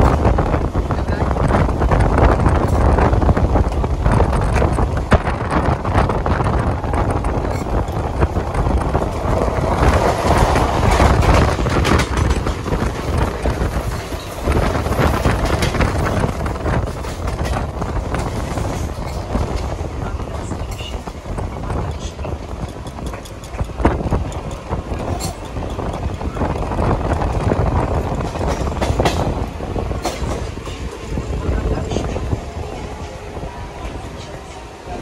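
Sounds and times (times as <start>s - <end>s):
electric train running: 0.0s - 35.0s
train passing: 0.0s - 35.0s
wind on microphone: 0.0s - 35.0s.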